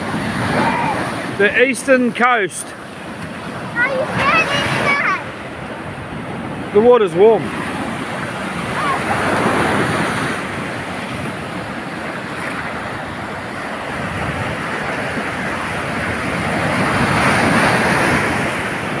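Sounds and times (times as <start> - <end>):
waves breaking on sand: 0.0 - 19.0.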